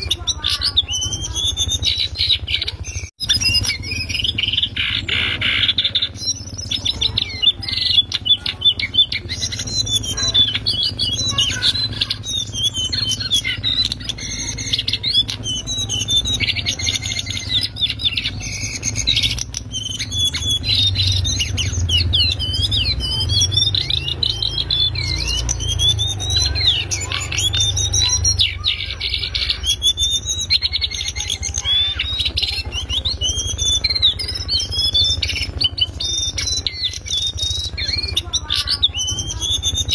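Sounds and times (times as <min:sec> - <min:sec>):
bird chattering warble: 0:00.0 - 0:39.9.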